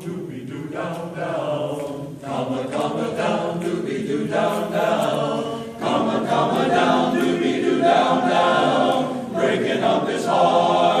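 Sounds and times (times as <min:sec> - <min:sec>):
group singing a cappella: 0:00.0 - 0:11.0.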